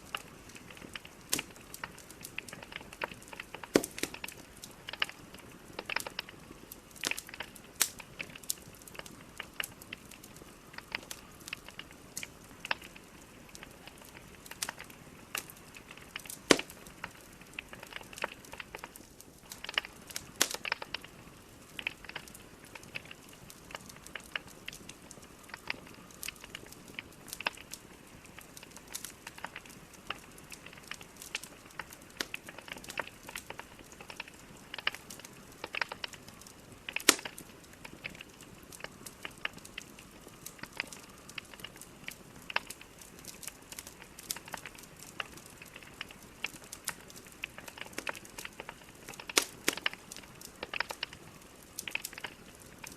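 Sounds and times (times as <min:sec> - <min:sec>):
fire crackling and popping: 0:00.0 - 0:52.9
soft steady fire hiss: 0:00.0 - 0:52.9.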